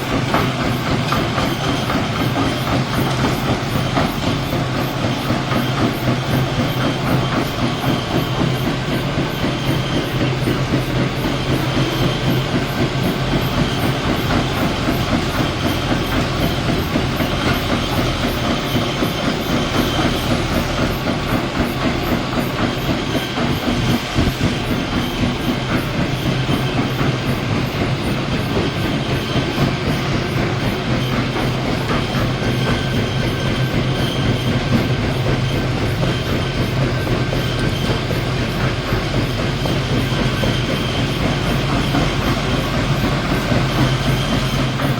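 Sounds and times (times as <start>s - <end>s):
briquette machine humming: 0.0s - 44.9s.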